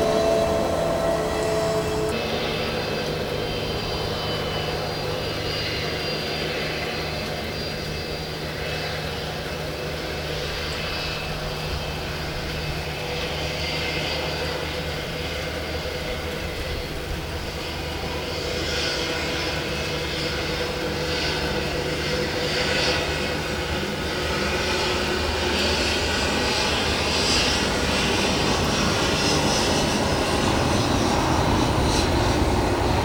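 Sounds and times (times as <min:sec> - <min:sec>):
airliner engines humming: 0:00.0 - 0:33.0
thin high engine whine: 0:00.0 - 0:33.0.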